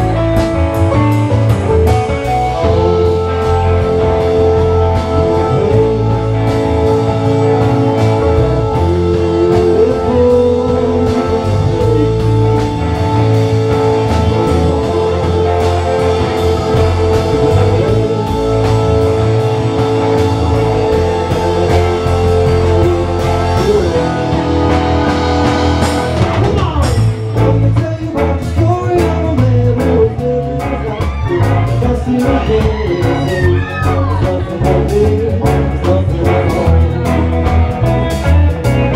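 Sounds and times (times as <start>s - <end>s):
drum kit: 0.0s - 38.9s
electric guitar: 0.0s - 38.9s
held keyboard chords: 0.0s - 38.9s
person singing: 0.0s - 38.9s.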